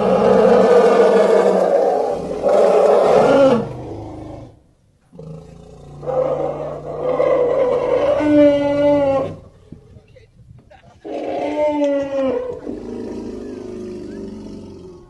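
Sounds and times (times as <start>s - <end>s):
elephants roaring: 0.0s - 9.5s, 11.0s - 15.0s.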